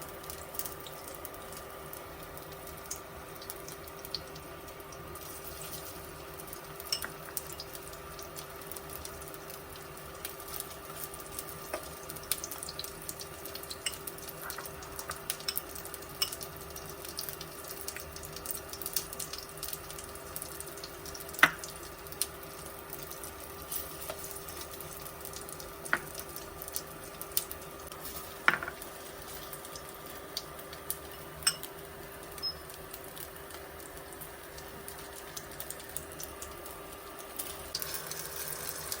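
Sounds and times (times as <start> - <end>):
faint steady hum: 0.0 - 39.0
oil sizzling in a frying pan: 0.0 - 39.0.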